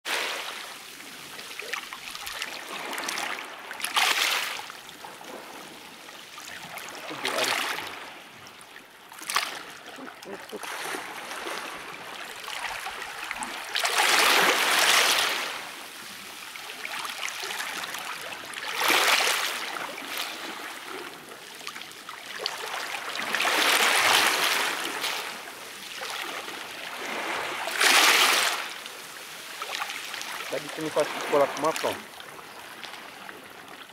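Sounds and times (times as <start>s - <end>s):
waves washing over rocks: 0.1s - 8.2s, 9.1s - 33.1s.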